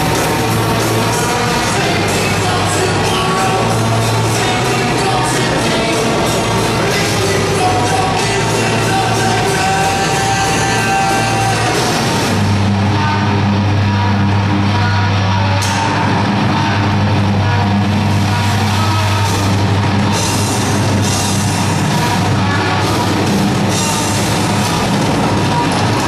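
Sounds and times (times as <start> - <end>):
heavy metal band playing live: 0.0 - 26.0.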